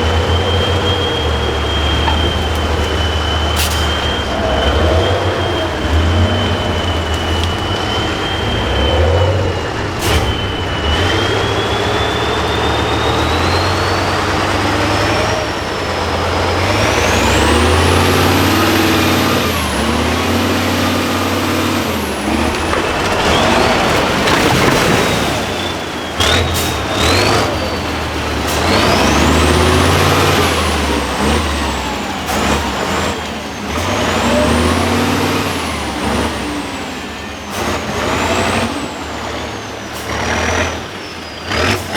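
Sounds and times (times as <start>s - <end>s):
diesel truck engine revving: 0.0s - 41.9s
high engine whine: 0.0s - 41.9s.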